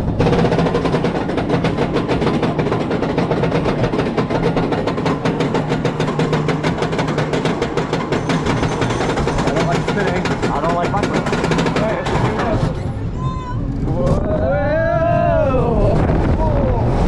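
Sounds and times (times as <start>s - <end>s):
roller coaster car rattling: 0.0s - 17.0s.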